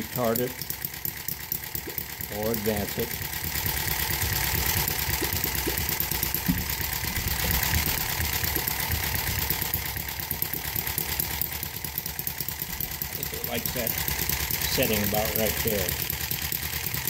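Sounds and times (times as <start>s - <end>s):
miniature engine running fast: 0.0s - 17.0s.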